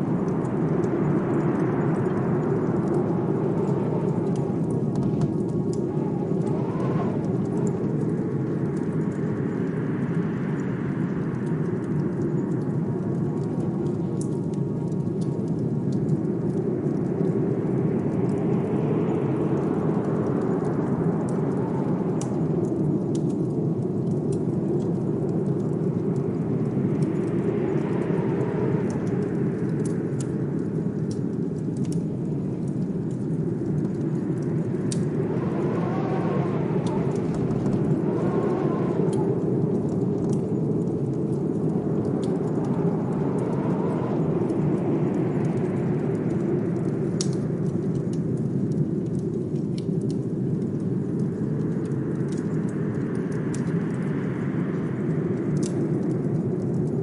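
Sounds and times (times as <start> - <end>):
blizzard wind rushing: 0.0 - 57.0
fireplace crackles: 0.0 - 57.0.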